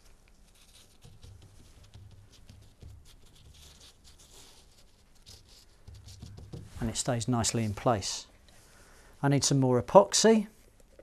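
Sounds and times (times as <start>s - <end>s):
faint rustling of cloth: 0.0s - 9.5s.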